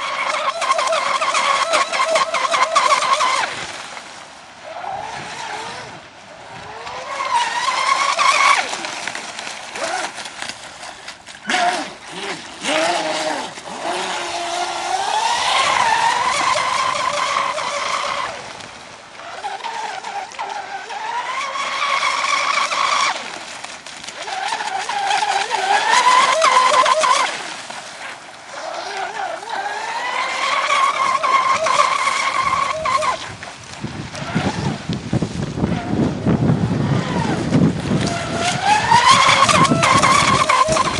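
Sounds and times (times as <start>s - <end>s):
model boat motor whining: 0.0s - 4.0s, 4.6s - 40.9s.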